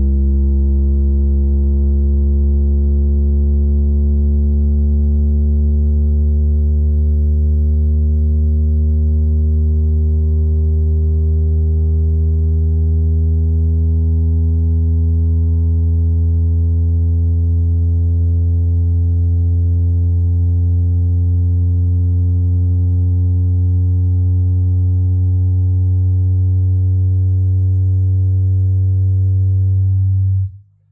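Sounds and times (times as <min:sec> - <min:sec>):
subwoofer playing deep test tone: 0:00.0 - 0:30.9.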